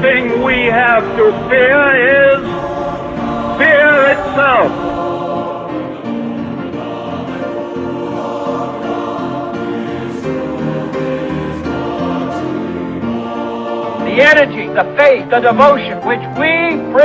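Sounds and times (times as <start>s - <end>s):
choir singing: 0.0s - 15.8s
instrumental accompaniment: 0.0s - 17.0s.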